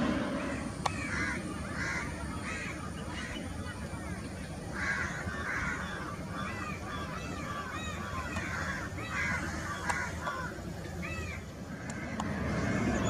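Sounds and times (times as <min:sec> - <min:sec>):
crows cawing: 0:00.0 - 0:03.5, 0:04.1 - 0:12.9
jet engines rumbling: 0:00.0 - 0:13.0.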